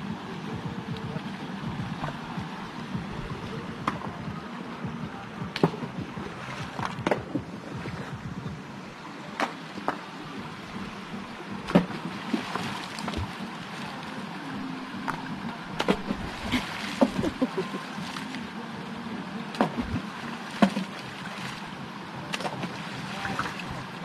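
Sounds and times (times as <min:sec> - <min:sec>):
creek water running over rocks: 0:00.0 - 0:24.0.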